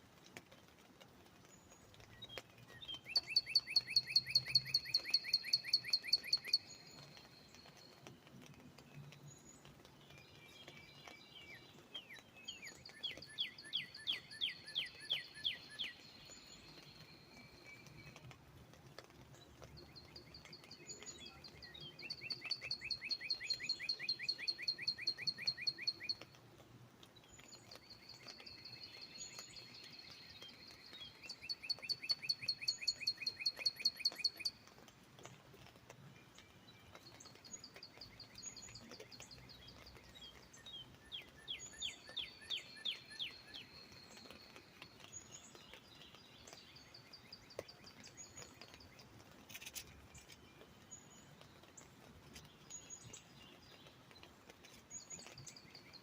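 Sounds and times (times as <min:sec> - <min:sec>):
faint background hiss: 0:00.0 - 0:56.0
songbirds singing: 0:00.2 - 0:56.0.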